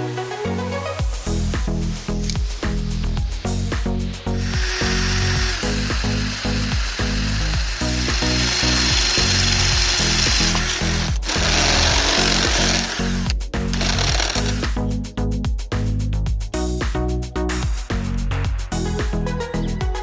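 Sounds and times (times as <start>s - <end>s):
background music with a beat: 0.0s - 20.0s.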